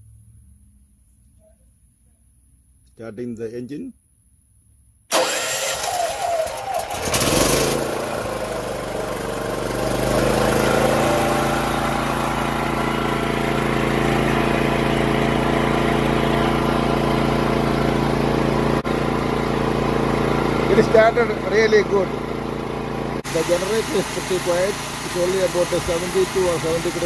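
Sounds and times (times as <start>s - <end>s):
generator engine running: 5.1s - 27.0s
starter motor cranking: 5.1s - 27.0s.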